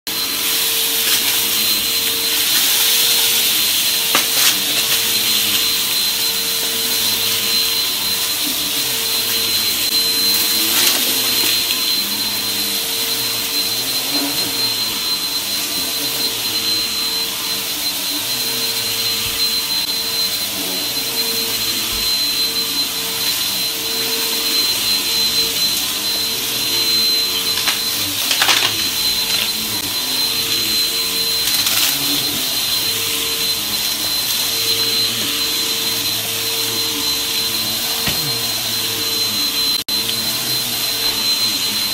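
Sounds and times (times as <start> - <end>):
vacuum cleaner running: 0.1 - 41.9.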